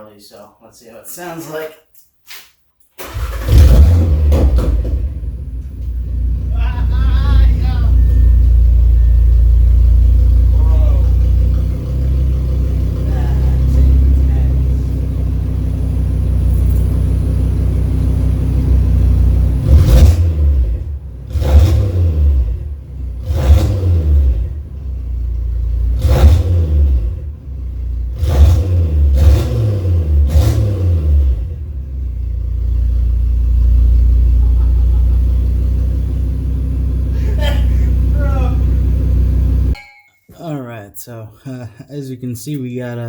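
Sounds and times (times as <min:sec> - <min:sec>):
car engine idling and revving: 0:03.0 - 0:39.8.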